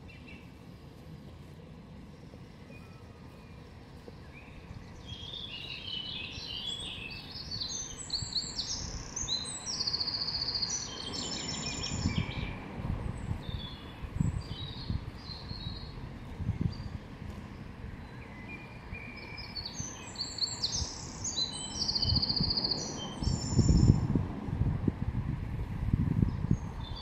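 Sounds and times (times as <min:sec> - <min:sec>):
songbird warbling song: 0:00.0 - 0:00.6, 0:02.1 - 0:24.1, 0:26.2 - 0:27.0.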